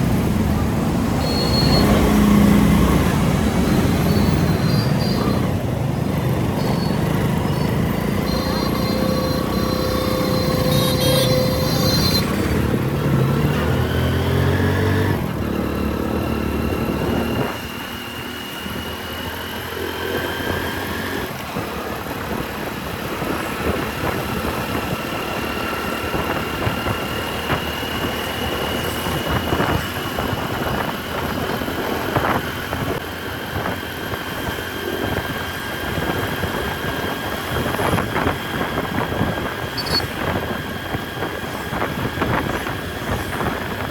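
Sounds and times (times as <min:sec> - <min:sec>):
motorcycle engine: 0:00.0 - 0:43.9
road noise: 0:00.0 - 0:43.9.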